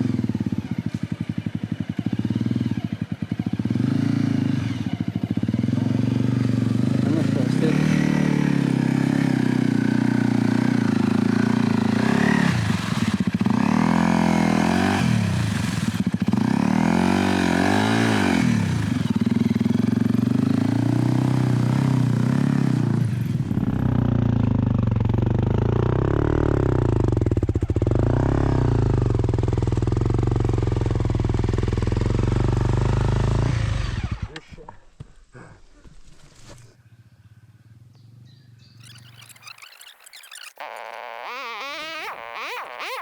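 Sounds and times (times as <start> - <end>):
motorcycle engine revving: 0.0 - 34.6, 37.4 - 43.0.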